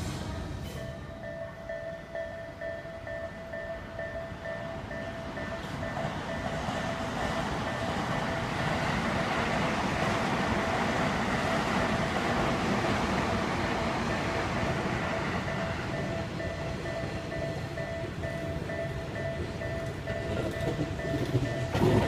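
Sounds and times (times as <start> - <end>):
train rumbling past: 0.0 - 22.0
railway crossing bell ringing: 0.4 - 22.0.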